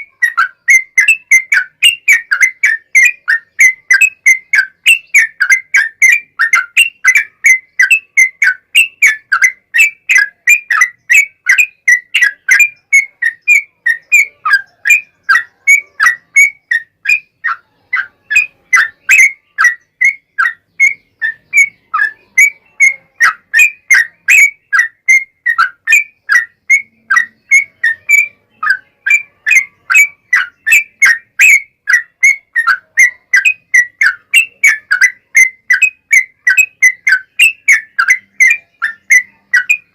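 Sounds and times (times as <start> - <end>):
bulbul singing chirpy notes: 0.0 - 39.9.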